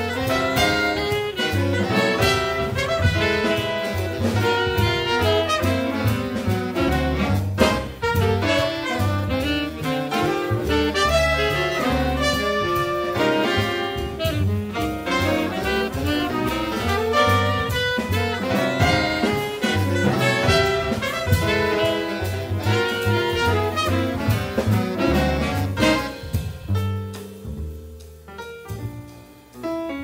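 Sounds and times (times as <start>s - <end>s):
jazz ensemble playing: 0.0s - 30.0s.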